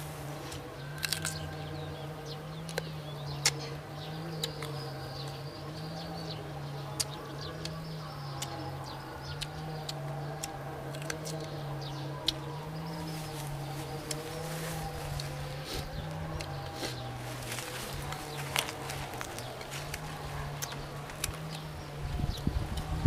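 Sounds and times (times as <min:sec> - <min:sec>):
steady low hum: 0:00.0 - 0:23.0
crunching and chewing mango: 0:00.3 - 0:06.3, 0:06.9 - 0:21.8.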